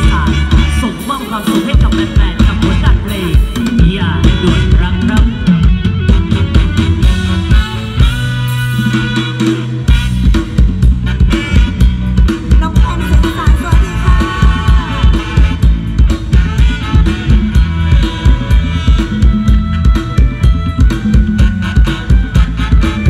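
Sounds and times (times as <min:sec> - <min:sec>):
drum kit beat: 0:00.0 - 0:23.0
live band music: 0:00.0 - 0:23.0
pitch-bending lead melody: 0:00.0 - 0:23.0.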